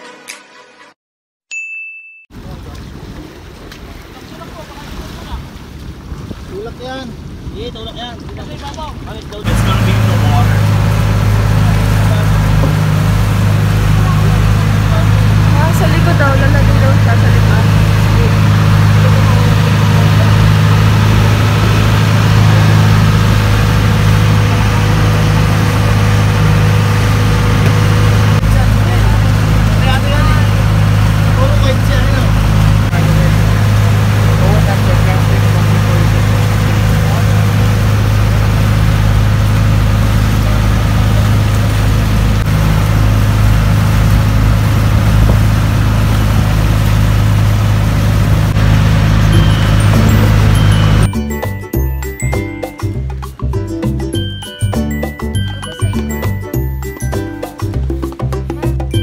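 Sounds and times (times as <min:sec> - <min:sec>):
wind: 0:02.3 - 0:56.0
boat engine droning: 0:02.4 - 0:59.0.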